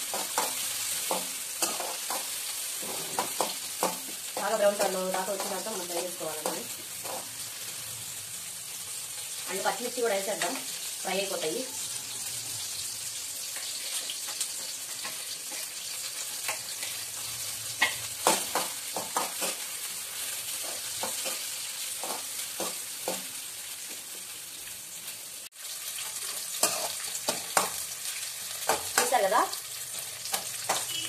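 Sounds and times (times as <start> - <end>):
onions sizzling in oil: 0.0 - 31.0.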